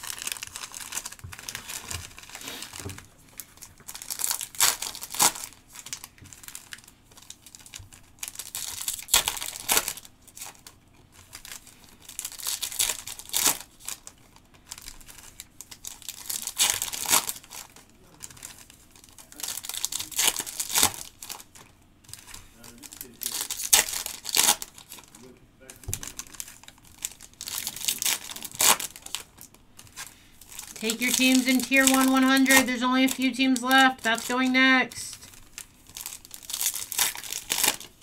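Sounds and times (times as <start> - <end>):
foil wrappers crinkling and tearing: 0.0 - 34.5, 35.1 - 38.0.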